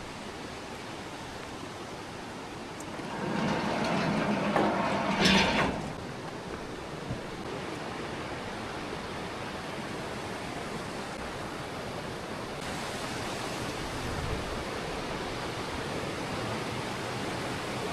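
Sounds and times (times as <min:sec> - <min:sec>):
water rushing: 0:00.0 - 0:17.9.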